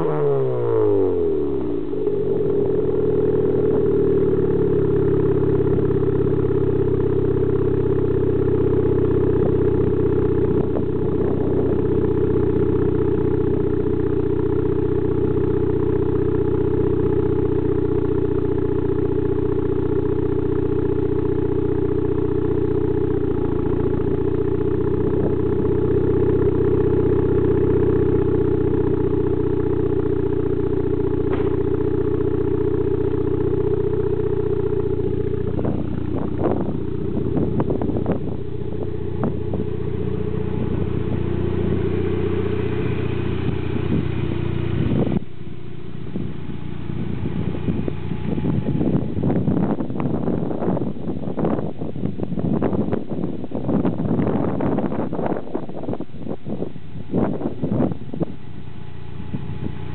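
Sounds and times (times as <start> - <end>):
turbocharged car engine idling: 0.0 - 59.9.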